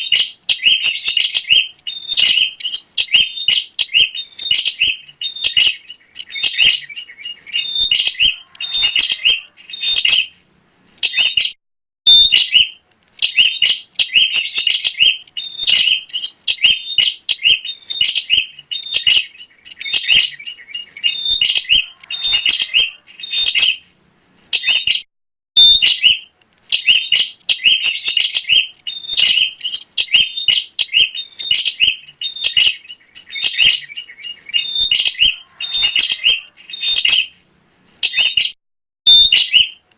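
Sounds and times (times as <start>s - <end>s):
bird singing high chirps: 0.0s - 25.0s, 25.6s - 39.9s.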